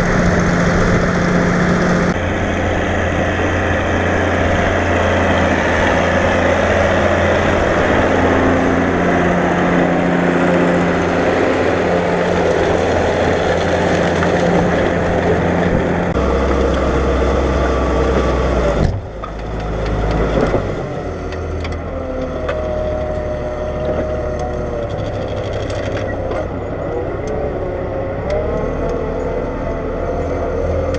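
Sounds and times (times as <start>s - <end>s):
rising whine: 0.0s - 30.9s
tractor diesel engine running: 0.0s - 30.9s.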